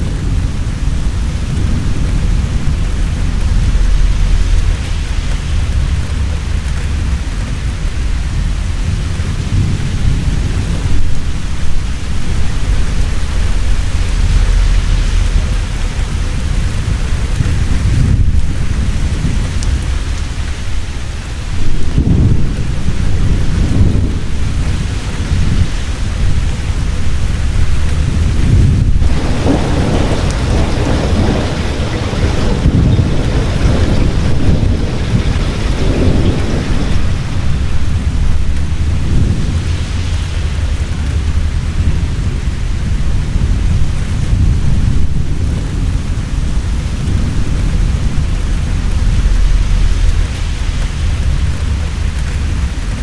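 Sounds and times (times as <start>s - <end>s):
heavy rain falling: 0.0s - 53.0s
thunder rumbling: 0.0s - 53.0s.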